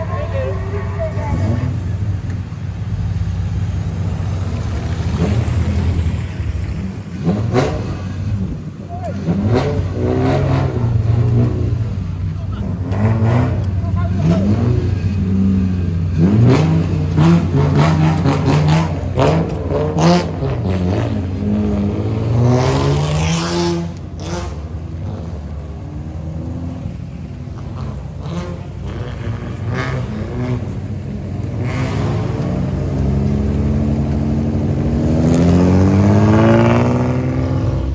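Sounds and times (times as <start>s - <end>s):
car engine revving and idling: 0.0s - 37.9s.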